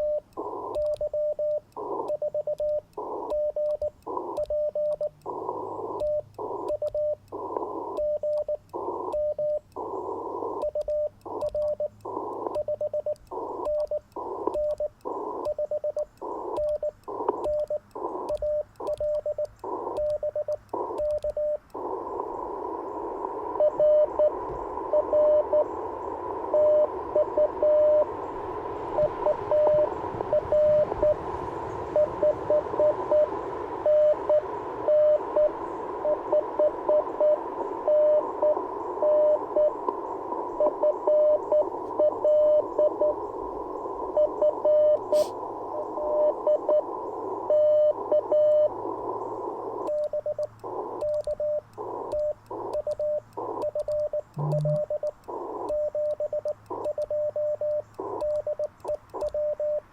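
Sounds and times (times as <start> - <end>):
morse code tone: 0.0 - 21.6, 23.6 - 25.7, 26.5 - 28.1, 29.0 - 31.2, 32.0 - 39.8, 40.6 - 43.2, 44.1 - 45.3, 49.9 - 59.9
radio band hiss: 0.0 - 59.8.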